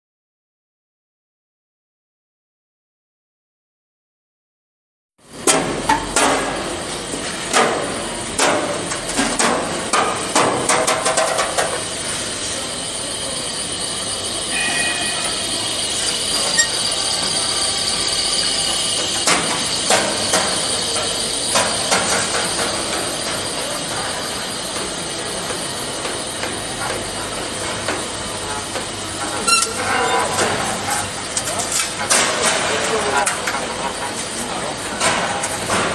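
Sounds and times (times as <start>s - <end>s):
factory machinery running: 5.2s - 35.9s.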